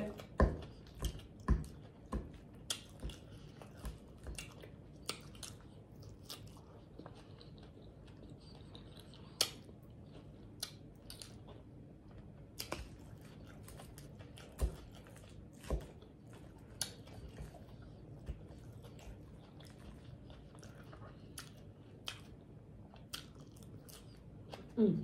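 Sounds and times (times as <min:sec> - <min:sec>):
chewing and biting: 0:00.0 - 0:24.8.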